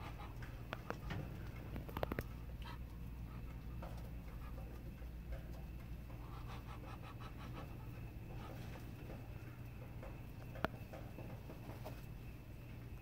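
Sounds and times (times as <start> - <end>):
chickens clucking: 0.0 - 12.4
steady low hum: 0.0 - 13.0.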